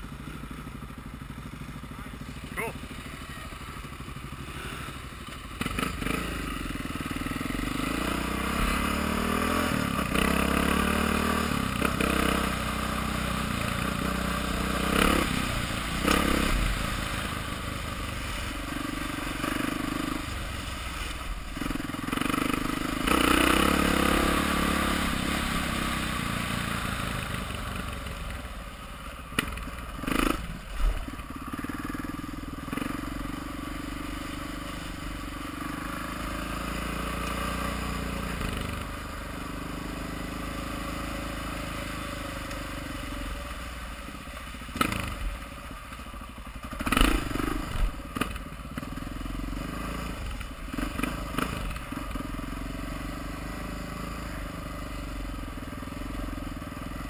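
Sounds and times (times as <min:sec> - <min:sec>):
dirt bike engine accelerating: 0:00.0 - 0:43.4, 0:46.3 - 0:57.0
wind and trail noise: 0:00.0 - 0:57.0.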